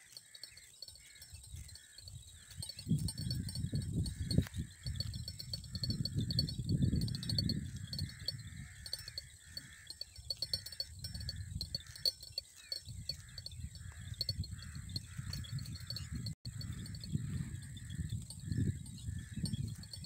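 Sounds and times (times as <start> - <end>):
faint high ticking: 0.0 - 20.0
steady chirping call: 0.0 - 20.0
wind rumbling on microphone: 0.2 - 20.0.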